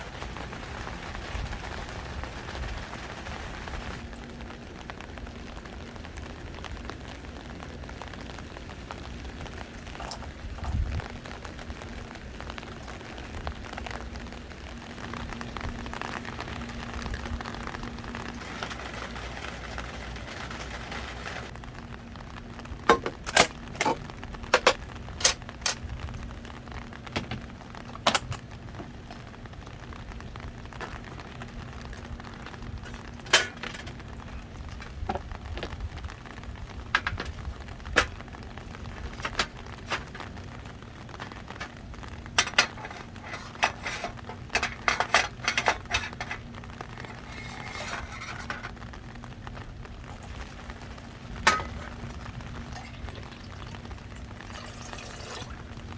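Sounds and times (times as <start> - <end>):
faint steady hum: 0.0 - 55.9
heavy rain: 0.0 - 55.9.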